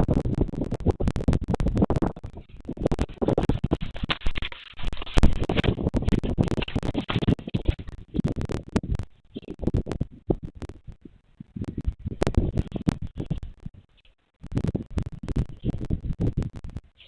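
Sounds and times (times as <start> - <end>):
scratching and crackling on microphone: 0.0 - 17.0.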